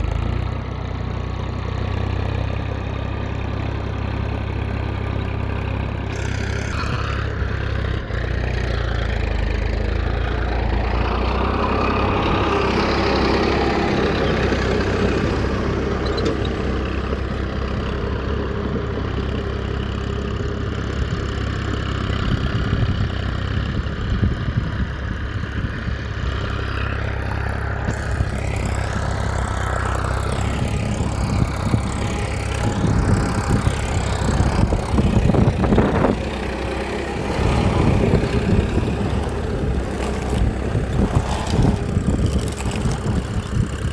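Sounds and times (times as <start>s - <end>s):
engine rattling: 0.0s - 43.9s
small engine running: 0.0s - 43.9s.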